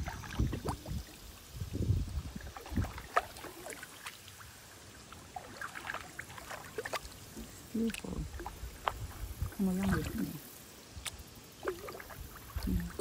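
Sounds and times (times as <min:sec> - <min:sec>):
water sloshing and dripping: 0:00.0 - 0:13.0.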